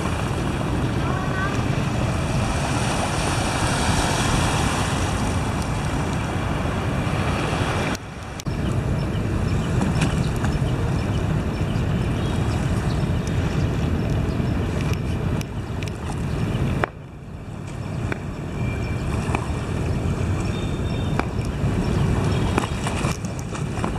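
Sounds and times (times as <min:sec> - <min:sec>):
calm sea water washing: 0:00.0 - 0:23.9
wind buffeting microphone: 0:00.0 - 0:23.9.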